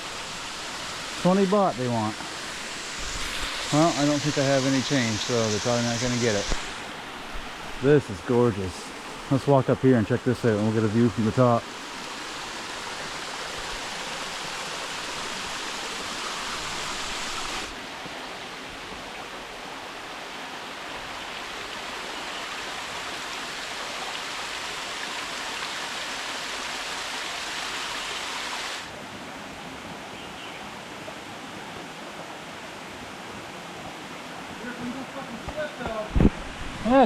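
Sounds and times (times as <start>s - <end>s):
waterfall rushing: 0.0s - 29.0s, 34.0s - 37.0s.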